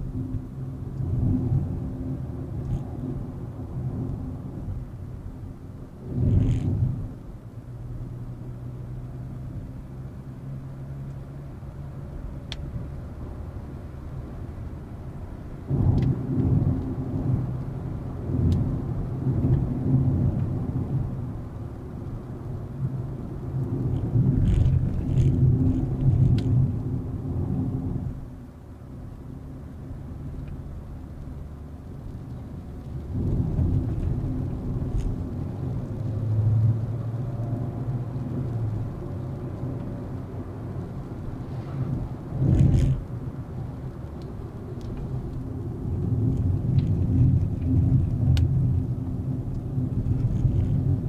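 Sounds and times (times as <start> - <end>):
tyre and road noise: 0.0 - 51.0.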